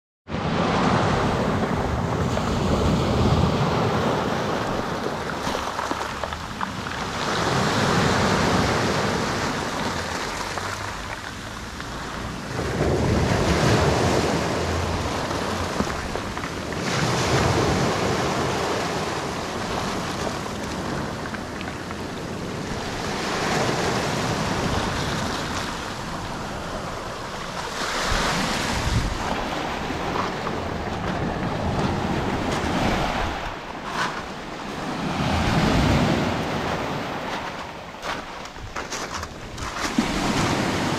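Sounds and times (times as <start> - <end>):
waves washing on pebble beach: 0.4 - 40.9.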